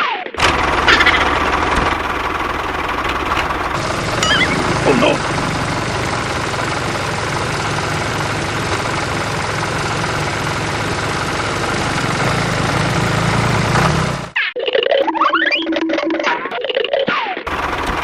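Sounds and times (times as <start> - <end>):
engine humming: 0.4 - 14.4, 17.5 - 18.0.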